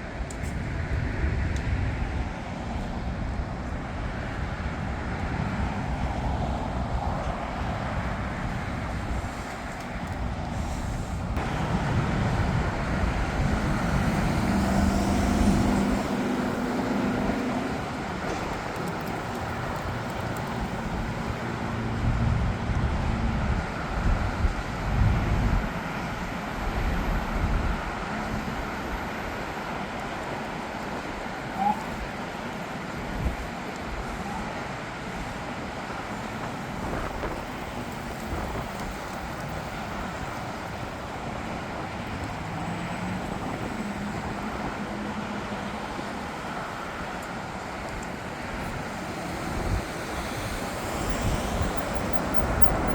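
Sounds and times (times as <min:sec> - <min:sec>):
road traffic rumbling: 0:00.0 - 0:52.9.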